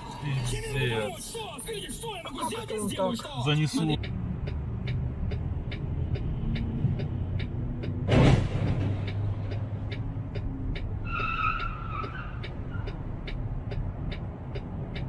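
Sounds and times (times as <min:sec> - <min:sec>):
even engine ticking: 0:00.0 - 0:15.0.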